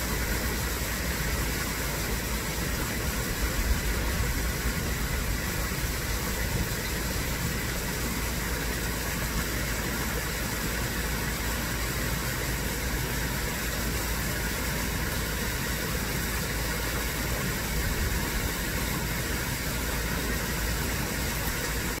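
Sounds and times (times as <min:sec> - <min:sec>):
pond waterfall rushing over rocks: 0:00.0 - 0:22.0.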